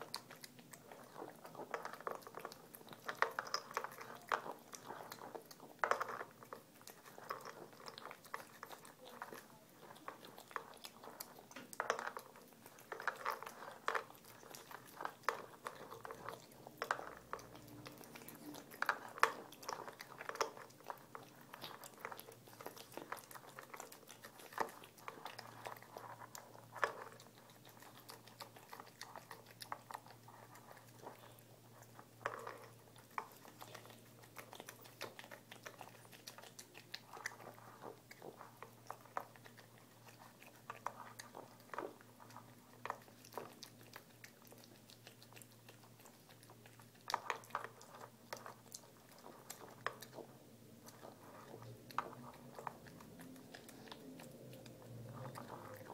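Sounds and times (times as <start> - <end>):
cat crunching dry food: 0.0 - 55.9.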